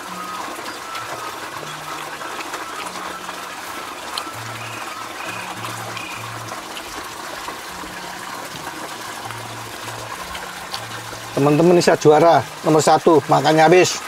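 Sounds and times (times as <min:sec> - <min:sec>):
running water trickling: 0:00.0 - 0:14.0
soft background music: 0:00.0 - 0:14.0.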